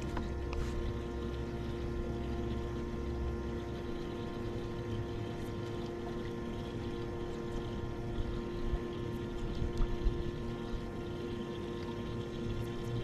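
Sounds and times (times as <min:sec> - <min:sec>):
electric motor humming: 0:00.0 - 0:13.0.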